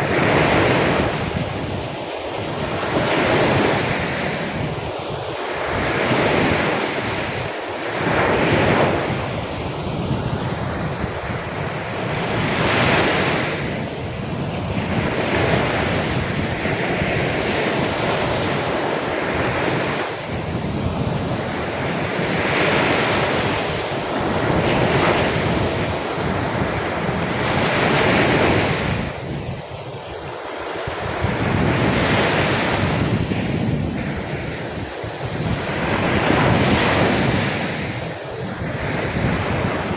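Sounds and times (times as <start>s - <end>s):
surf breaking on a beach: 0.0s - 39.9s
wind buffeting the microphone: 0.0s - 39.9s.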